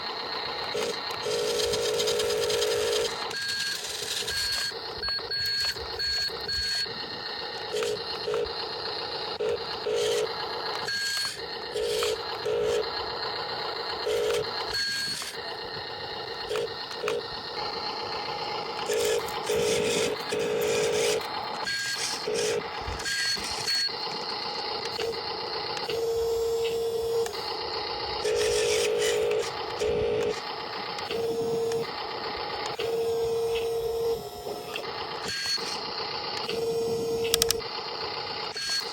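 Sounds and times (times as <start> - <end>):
small electric motors whirring: 0.0 - 38.9.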